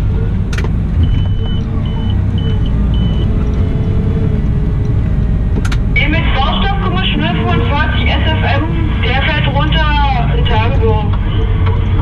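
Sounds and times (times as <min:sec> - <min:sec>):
wheel loader engine rumbling: 0:00.0 - 0:12.0.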